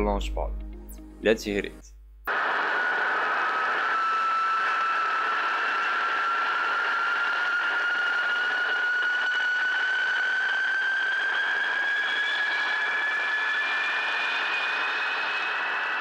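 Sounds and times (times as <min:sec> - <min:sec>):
high-pitched whine rising: 0:02.3 - 0:16.0.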